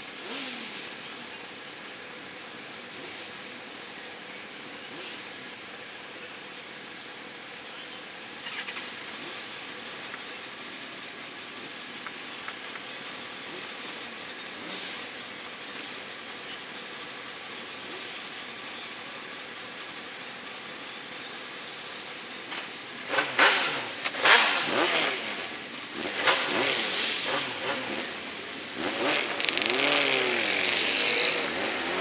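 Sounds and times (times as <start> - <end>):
motorcycle engines idling: 0.0 - 32.0.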